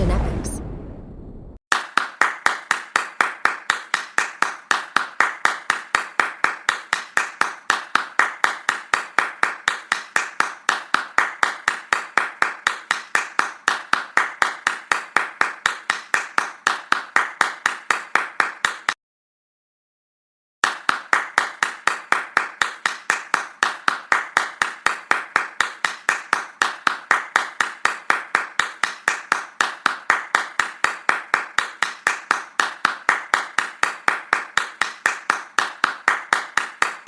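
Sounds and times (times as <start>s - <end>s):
person clapping hands: 1.7s - 19.0s, 20.6s - 37.0s.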